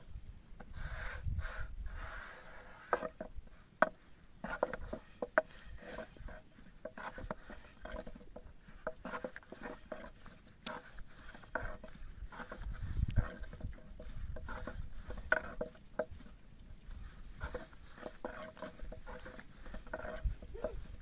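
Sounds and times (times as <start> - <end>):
dough rubbing: 0.8 - 21.0.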